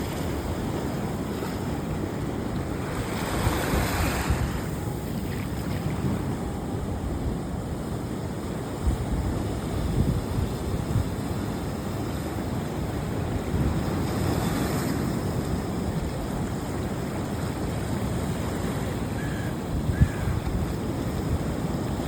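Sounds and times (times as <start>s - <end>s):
surf washing on a beach: 0.0s - 22.0s
wind rumbling on microphone: 0.0s - 22.0s.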